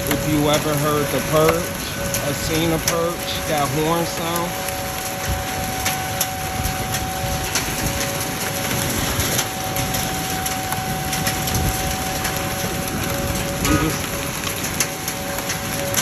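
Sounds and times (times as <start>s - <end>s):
rain: 0.0s - 16.0s
two-note warning siren: 0.0s - 16.0s
wind: 0.0s - 16.0s.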